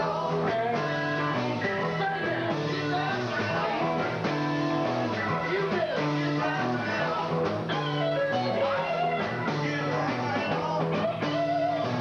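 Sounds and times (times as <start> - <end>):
bending electric guitar notes: 0.0 - 12.0
live rock band playing: 0.0 - 12.0.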